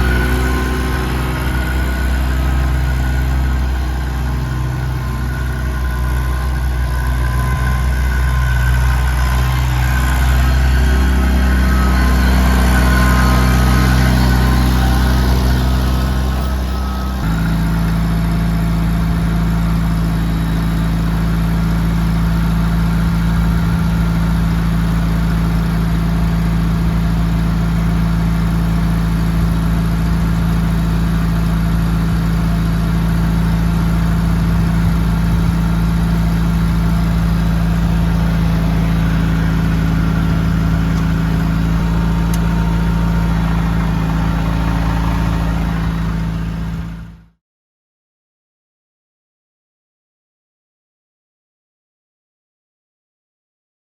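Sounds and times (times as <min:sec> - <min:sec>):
tractor engine idling: 0:00.0 - 0:47.3.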